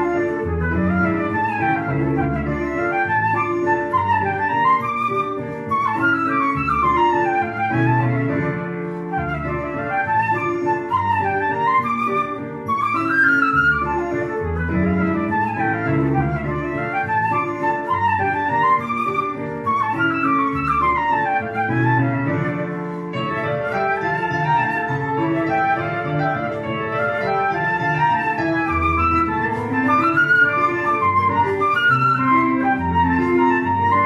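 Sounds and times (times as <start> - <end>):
flute melody: 0.0 - 34.0.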